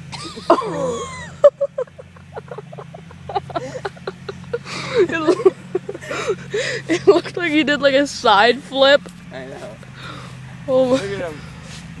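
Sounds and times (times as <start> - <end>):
steady low hum: 0.0 - 12.0
boys laughing: 0.1 - 8.1, 9.4 - 11.4.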